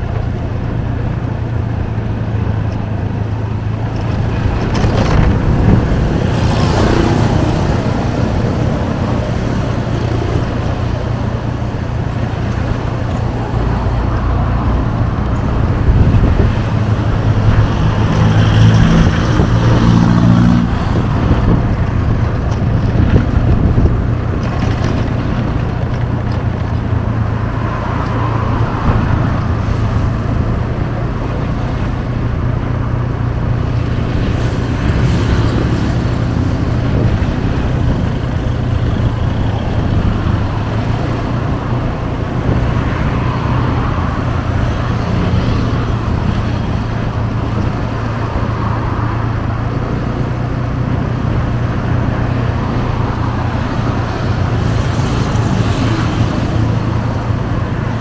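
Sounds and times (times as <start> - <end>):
road traffic noise: 0.0 - 58.0.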